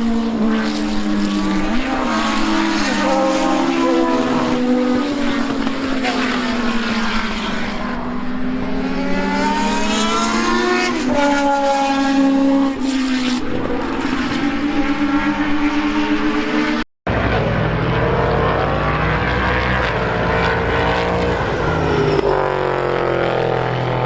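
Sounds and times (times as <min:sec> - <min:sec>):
race car engines at high revs: 0:00.0 - 0:24.0.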